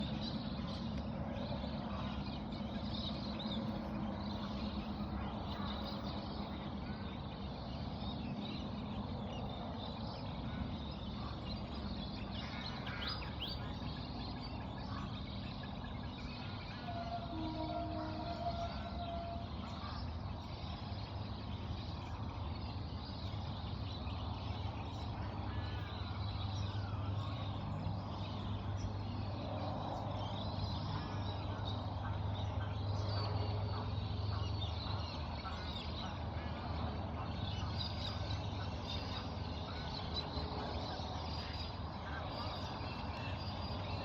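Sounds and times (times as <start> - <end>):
birds chirping and calling: 0.0 - 44.0.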